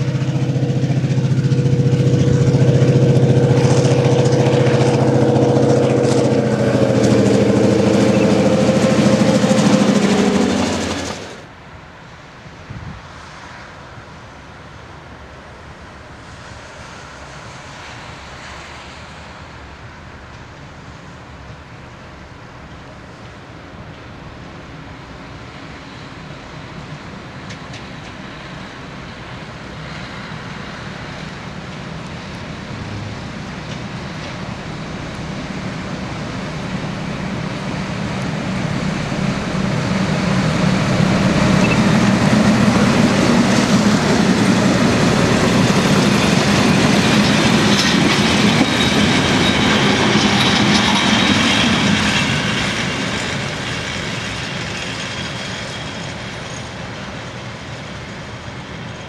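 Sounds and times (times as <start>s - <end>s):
train wheels on rails: 0.0s - 11.8s, 14.7s - 59.0s
diesel train engine: 0.0s - 59.0s.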